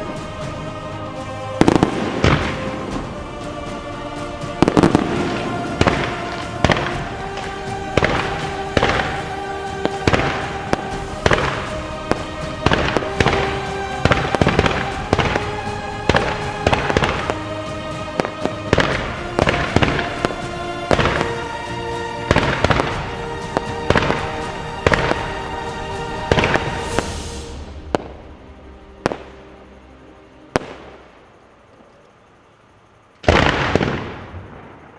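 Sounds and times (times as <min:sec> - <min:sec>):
fireworks bangs: 0:00.0 - 0:29.5, 0:33.2 - 0:34.9
music with sustained notes: 0:00.0 - 0:34.9.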